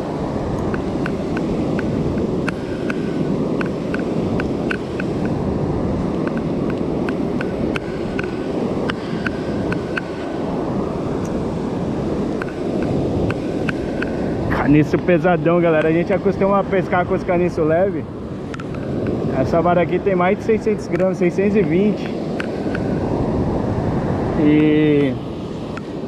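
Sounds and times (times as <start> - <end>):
surf washing onto beach: 0.0 - 26.0
wind buffeting microphone: 0.0 - 26.0.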